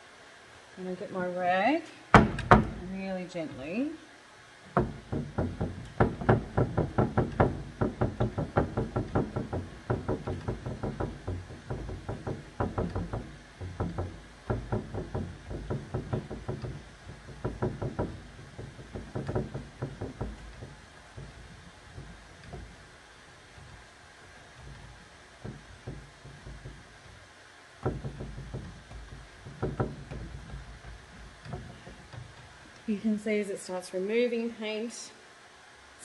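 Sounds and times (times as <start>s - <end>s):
rag dabbing on wood: 2.1s - 4.0s, 4.6s - 33.2s.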